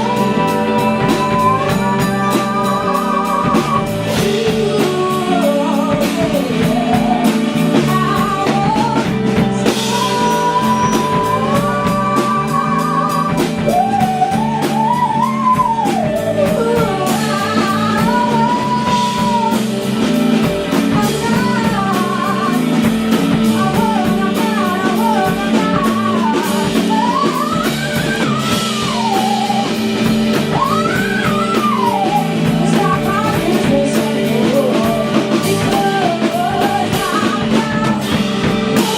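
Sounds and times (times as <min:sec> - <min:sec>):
drum kit: 0:00.0 - 0:38.9
guitar: 0:00.0 - 0:38.9
woman singing: 0:00.0 - 0:38.9.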